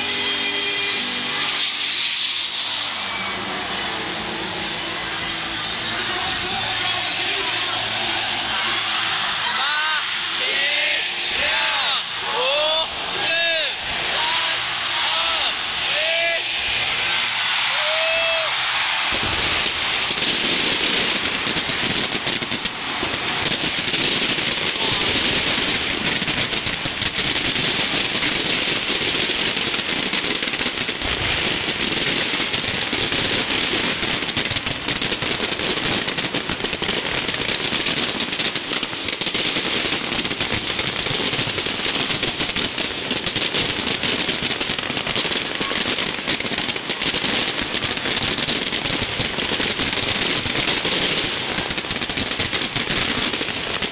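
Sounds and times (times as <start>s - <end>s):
fireworks crackling barrage: 0.0s - 53.9s.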